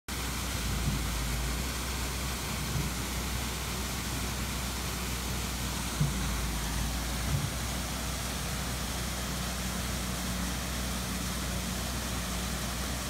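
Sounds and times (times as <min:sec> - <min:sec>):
small waterfall splashing: 0:00.1 - 0:13.0.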